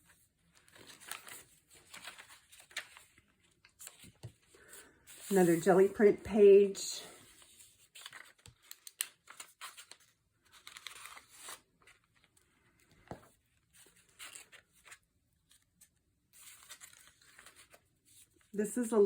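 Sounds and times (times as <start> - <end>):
paper pages rustling: 0.0 - 18.5.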